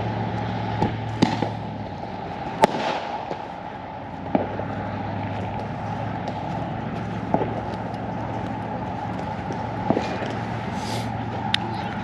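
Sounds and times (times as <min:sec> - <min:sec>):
steady low hum: 0:00.0 - 0:12.0
firework bangs: 0:00.7 - 0:11.5.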